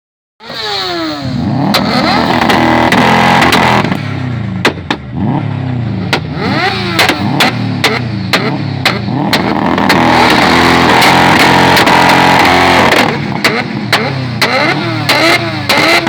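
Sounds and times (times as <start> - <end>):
engine revving hard: 0.4 - 16.0
exhaust pops and bangs: 1.6 - 5.2, 6.1 - 16.0.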